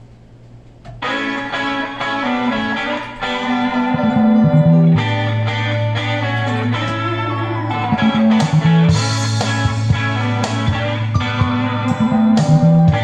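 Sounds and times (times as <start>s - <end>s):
plucked notes: 1.0s - 13.0s
sustained bass line: 2.5s - 13.0s.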